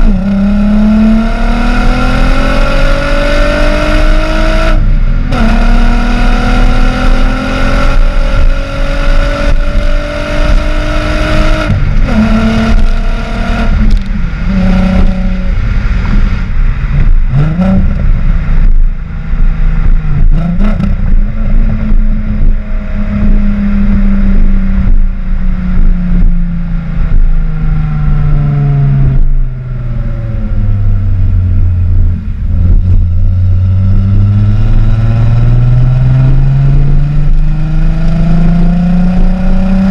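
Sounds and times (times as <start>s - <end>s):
car engine shifting through gears: 0.0s - 39.9s.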